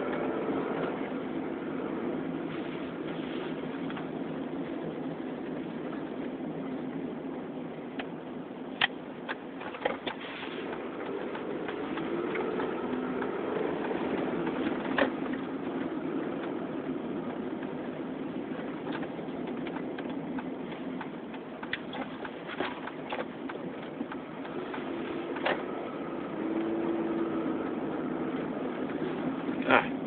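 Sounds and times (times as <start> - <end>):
car engine drone: 0.0 - 30.0
road noise: 0.0 - 30.0.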